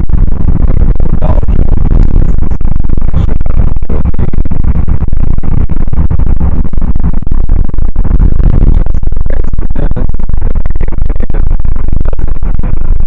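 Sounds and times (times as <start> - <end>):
distorted car road and wind noise: 0.0 - 13.0.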